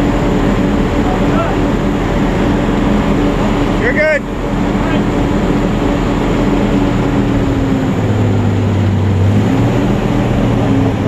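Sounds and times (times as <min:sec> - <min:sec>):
armored vehicle engine running: 0:00.0 - 0:11.0.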